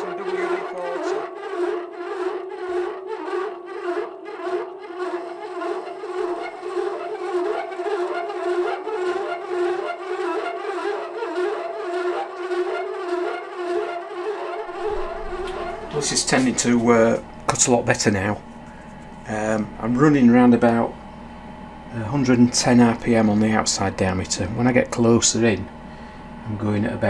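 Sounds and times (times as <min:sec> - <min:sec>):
lathe tool chattering drone: 0:00.0 - 0:27.0.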